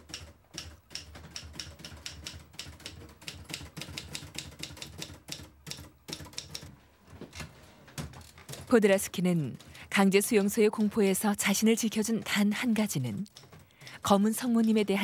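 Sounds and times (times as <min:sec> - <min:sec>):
manual typewriter typing: 0:00.0 - 0:06.8, 0:08.0 - 0:15.0.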